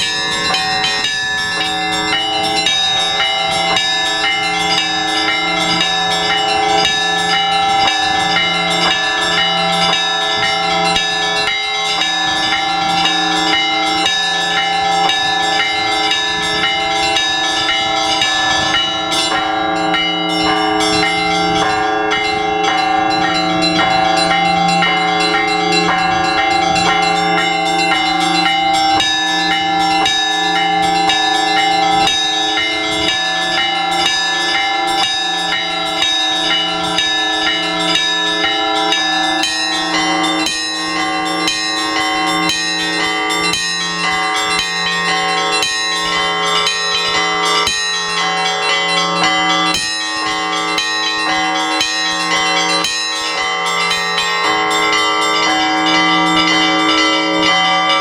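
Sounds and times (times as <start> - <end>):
large church bells ringing: 0.0 - 58.0
small church bells struck quickly: 0.0 - 58.0.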